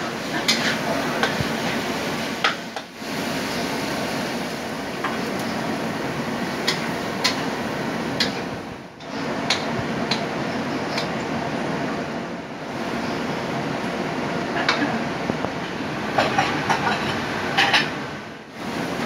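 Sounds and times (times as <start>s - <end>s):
seafood stir-frying hiss: 0.0s - 11.5s, 12.6s - 19.0s.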